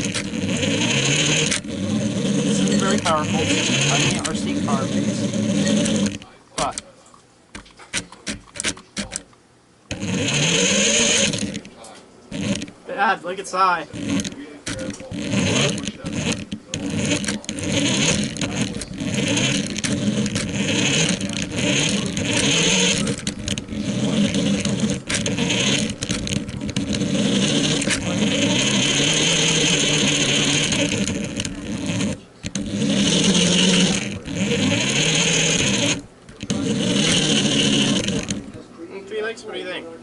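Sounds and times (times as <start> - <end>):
toy car motor whirring: 0.0 - 6.8, 7.6 - 9.2, 9.9 - 12.8, 13.8 - 38.6.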